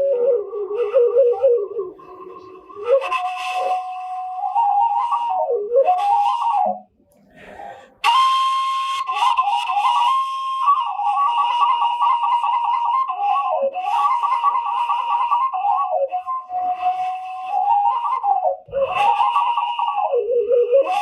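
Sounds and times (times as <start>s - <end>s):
bamboo flute melody: 0.0s - 21.0s.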